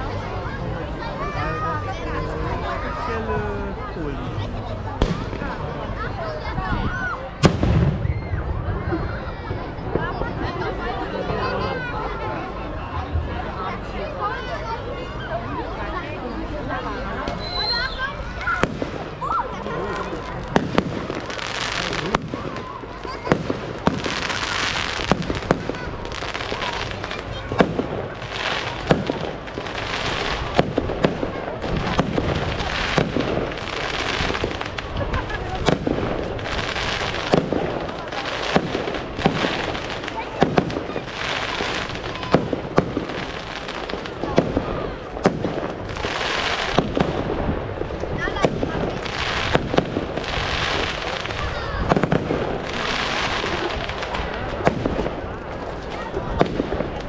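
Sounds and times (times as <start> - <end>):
fireworks bursting with sharp bangs: 0.0 - 14.0, 16.7 - 57.0
continuous hiss: 0.0 - 57.0.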